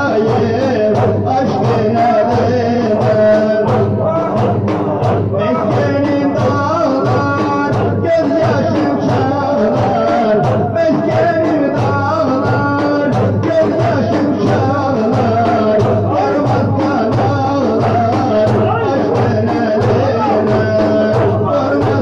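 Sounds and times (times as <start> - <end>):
devotional singing: 0.0 - 22.0
steady drum beat: 0.0 - 22.0.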